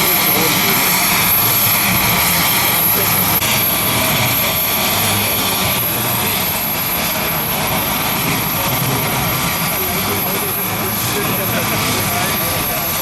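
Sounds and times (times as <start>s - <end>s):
helicopter rotor and turbine: 0.0s - 13.0s.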